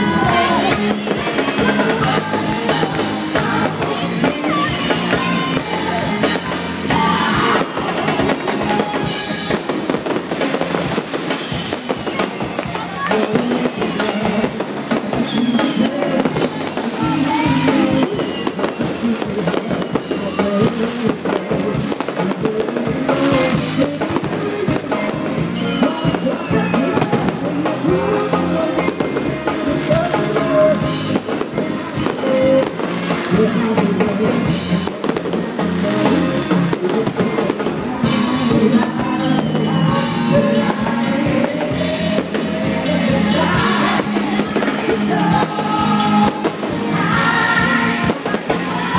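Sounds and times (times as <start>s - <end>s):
fireworks going off: 0.0s - 48.9s
loud music with drums: 0.0s - 48.9s.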